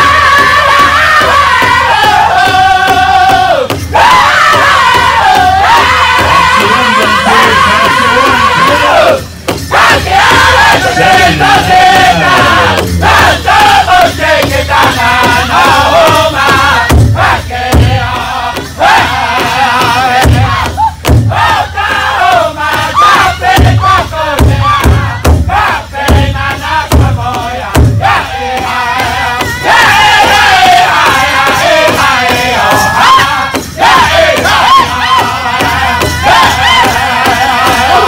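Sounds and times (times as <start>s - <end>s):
large drum beating: 0.0s - 38.0s
men singing in high voices: 0.0s - 38.0s.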